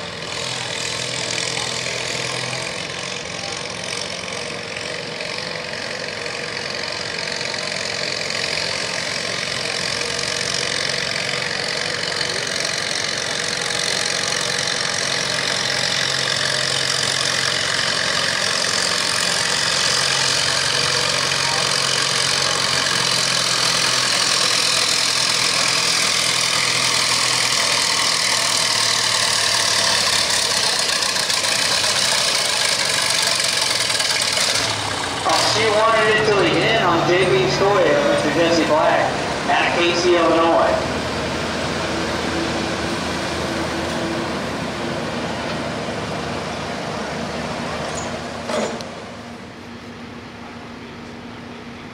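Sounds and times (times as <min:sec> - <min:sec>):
tractor engine under full load: 0:00.0 - 0:51.9.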